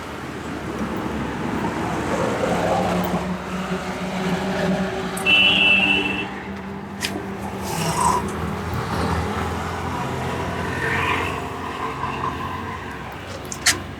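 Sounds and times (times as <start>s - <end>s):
rumble of passing vehicles: 0.0s - 13.9s.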